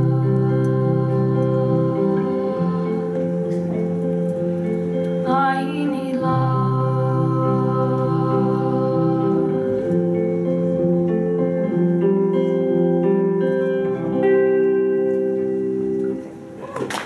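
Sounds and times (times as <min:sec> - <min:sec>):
live indie pop band: 0:00.0 - 0:17.0.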